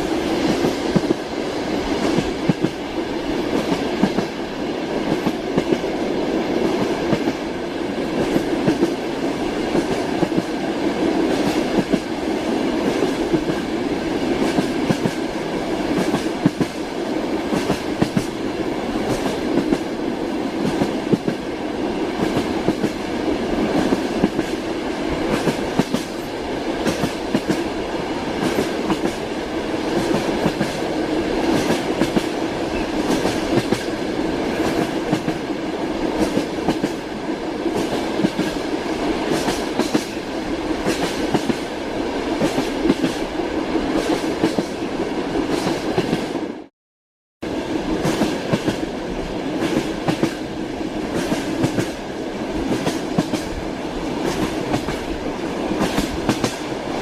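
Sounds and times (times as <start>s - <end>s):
train wheels rumbling on rails: 0.0s - 46.7s, 47.4s - 57.0s.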